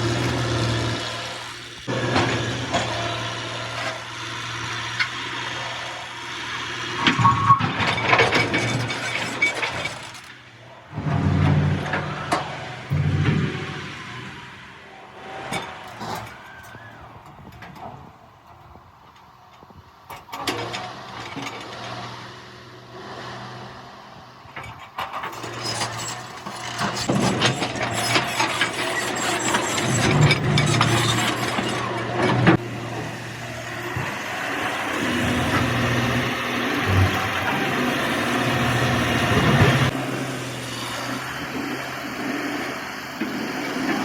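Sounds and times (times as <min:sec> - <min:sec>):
engine knocking and clatter: 0:00.0 - 0:14.2, 0:22.9 - 0:44.0
heavy vehicle engine running: 0:00.0 - 0:44.0.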